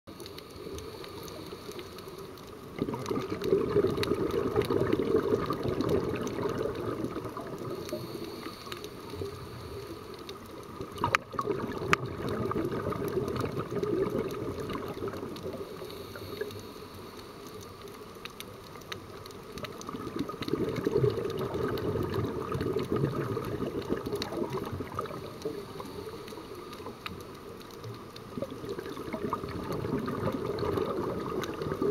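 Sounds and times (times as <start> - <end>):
underwater regulator bubbles gurgling: 0.1 - 16.8, 17.5 - 31.9.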